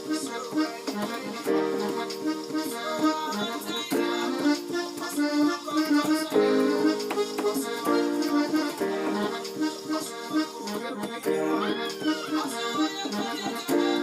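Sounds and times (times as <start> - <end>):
electronic keyboard gospel chords: 0.0 - 14.0.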